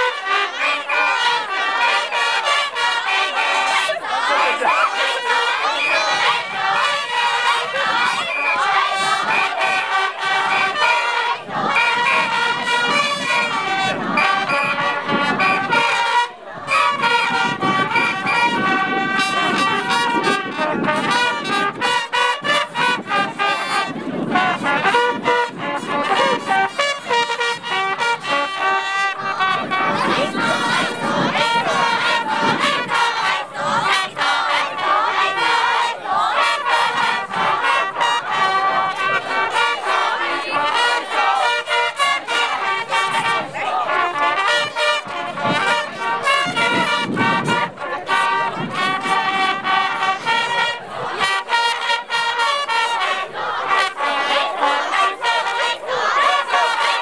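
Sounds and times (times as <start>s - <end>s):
brass trumpets blaring: 0.0s - 57.0s
crowd chanting and shouting: 0.0s - 57.0s.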